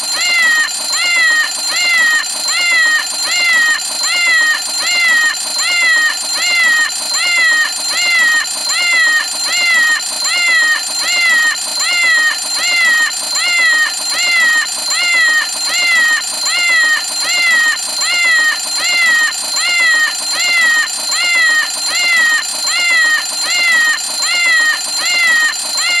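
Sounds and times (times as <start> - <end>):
cat meow alarm: 0.0 - 26.0
steady high ringing tone: 0.0 - 26.0.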